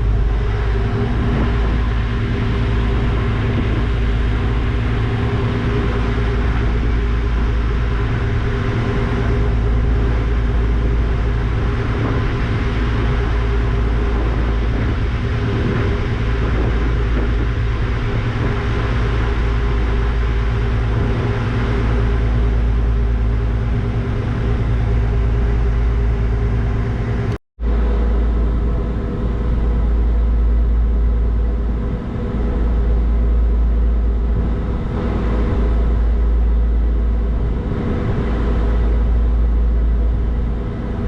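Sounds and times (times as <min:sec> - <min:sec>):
ferry engines droning: 0:00.0 - 0:41.0.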